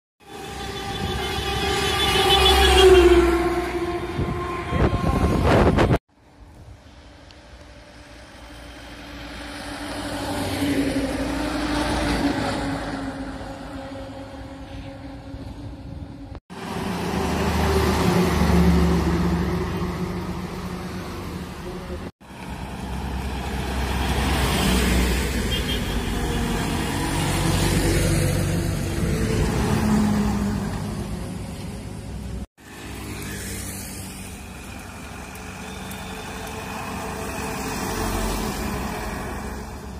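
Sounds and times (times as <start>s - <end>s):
lorries passing: 0.2s - 39.9s.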